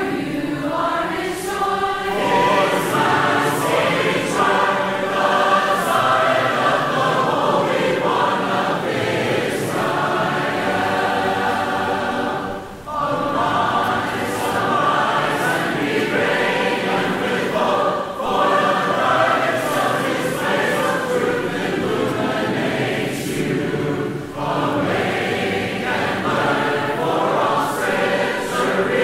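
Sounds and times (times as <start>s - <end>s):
choir singing a hymn: 0.0s - 29.0s.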